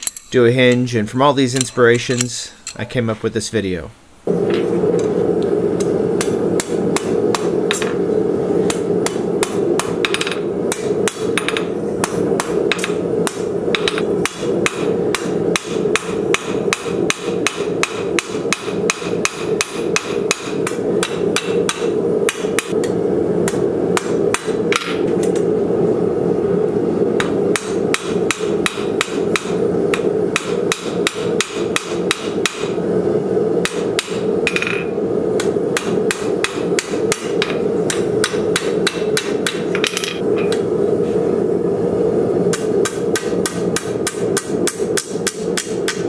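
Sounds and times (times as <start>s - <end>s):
steady drone: 4.2s - 46.0s.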